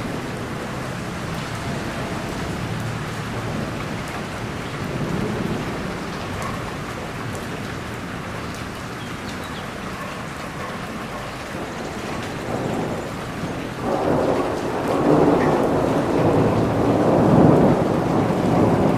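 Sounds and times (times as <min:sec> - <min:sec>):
low thunder rumbling: 0:00.0 - 0:08.3, 0:11.5 - 0:18.9
heavy rain falling: 0:00.0 - 0:18.9.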